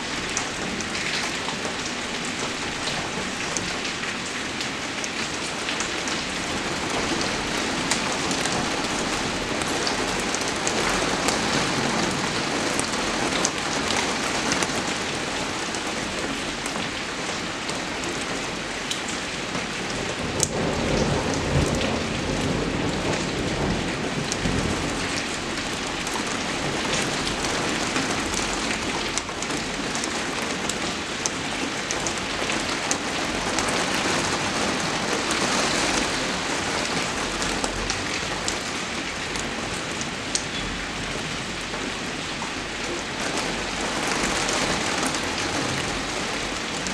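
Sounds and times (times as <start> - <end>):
rain on hard surface: 0.0 - 46.9.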